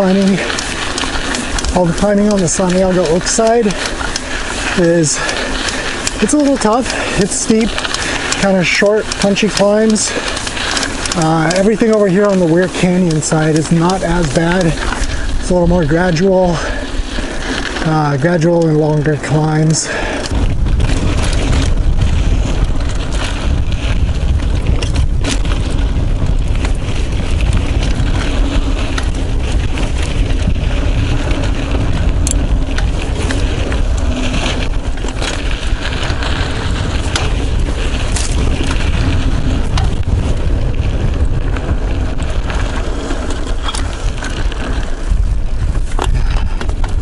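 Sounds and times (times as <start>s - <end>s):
bike clicks and rattles: 0.0s - 47.0s
tyres on dirt: 0.0s - 47.0s
wind rushing on microphone: 0.0s - 47.0s.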